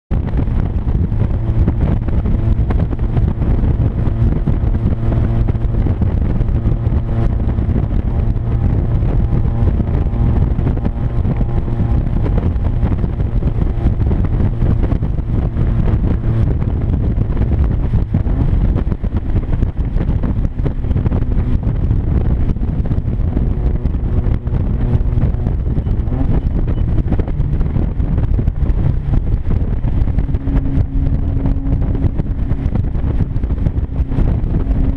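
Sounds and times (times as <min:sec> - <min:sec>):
car engine drone: 0:00.1 - 0:34.9.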